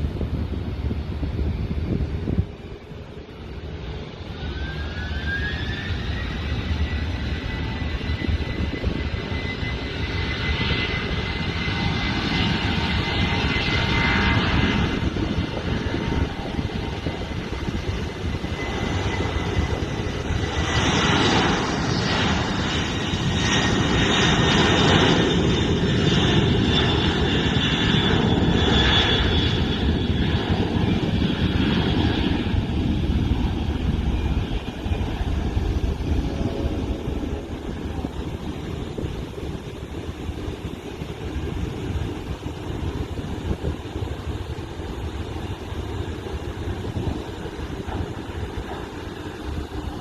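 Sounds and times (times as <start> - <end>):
jet engines rumbling with whine: 0.0 - 50.0.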